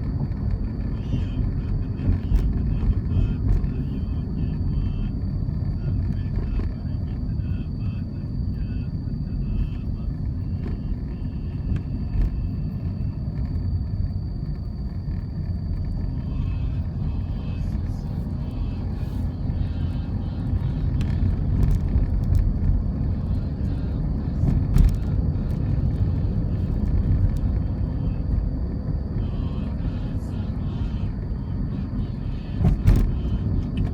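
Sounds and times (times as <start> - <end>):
faint high whine: 0.0 - 33.9
road traffic rumble: 0.0 - 33.9.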